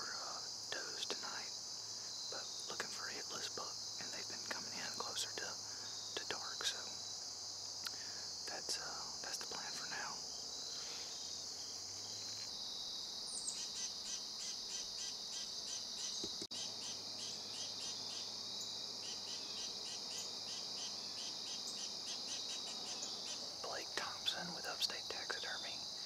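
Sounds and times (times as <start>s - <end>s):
crickets droning: 0.0s - 26.0s
insect chirping: 0.0s - 26.0s.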